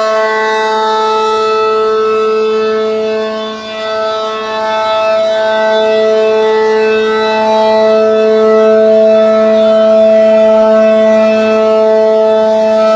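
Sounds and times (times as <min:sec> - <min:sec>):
rotating siren tone: 0:00.0 - 0:12.9.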